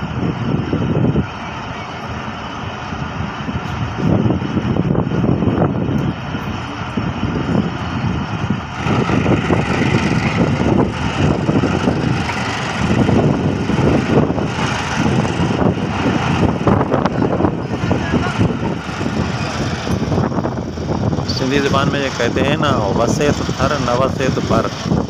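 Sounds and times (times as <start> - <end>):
train wheels rumbling and clattering: 2.0 - 25.0.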